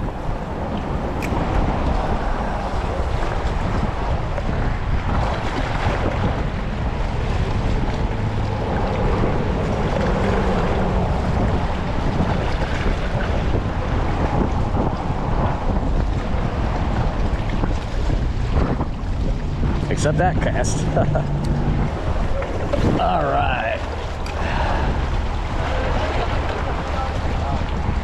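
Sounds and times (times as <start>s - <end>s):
wind blowing across microphone: 0.0s - 28.0s.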